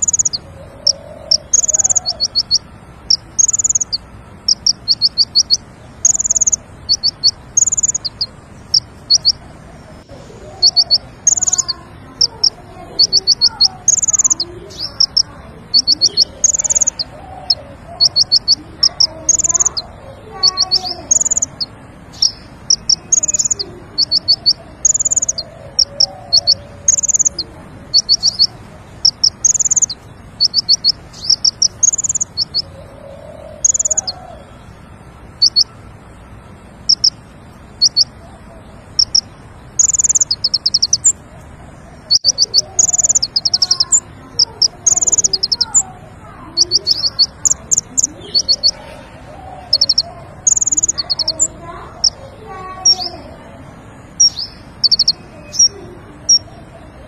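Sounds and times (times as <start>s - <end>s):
faint lower chirps: 0.0s - 32.7s, 33.4s - 34.8s, 35.4s - 38.2s, 38.9s - 41.2s, 42.1s - 53.3s
bird chirping in bursts: 0.0s - 57.0s.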